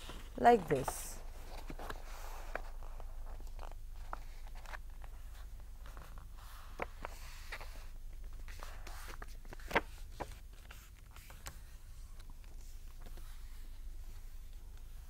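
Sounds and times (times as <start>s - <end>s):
paper rustling and creasing: 0.0s - 15.0s.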